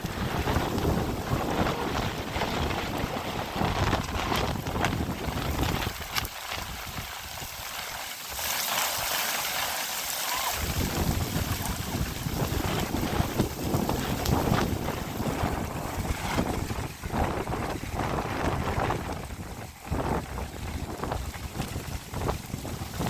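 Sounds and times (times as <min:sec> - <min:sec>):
wind buffeting microphone: 0:00.0 - 0:08.4, 0:10.4 - 0:23.0.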